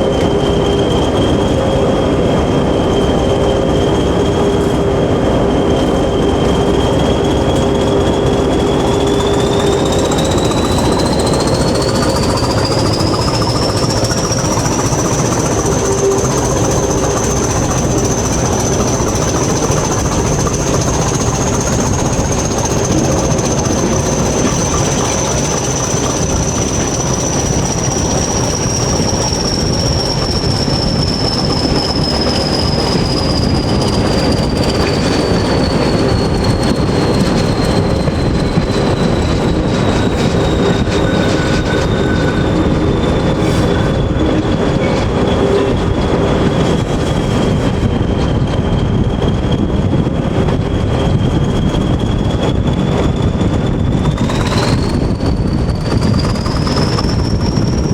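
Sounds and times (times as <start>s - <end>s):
high squeal falling in pitch: 0.0s - 47.4s
train rumbling on track: 0.0s - 57.9s.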